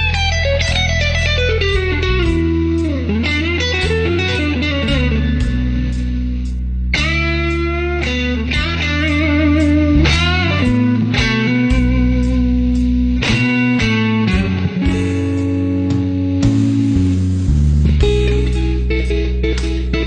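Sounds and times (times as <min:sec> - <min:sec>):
electric guitar with vibrato: 0:00.0 - 0:20.0
sustained low bass notes: 0:00.0 - 0:20.0.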